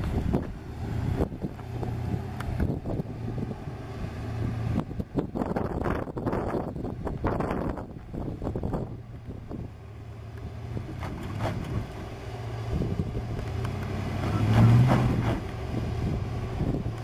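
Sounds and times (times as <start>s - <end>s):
tires crackling on rock: 0.0s - 17.0s
truck engine pulling under load: 0.0s - 17.0s.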